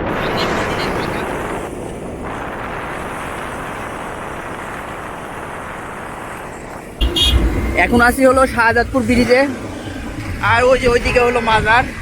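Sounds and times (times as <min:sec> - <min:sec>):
road and wind noise in moving vehicle: 0:00.0 - 0:12.0.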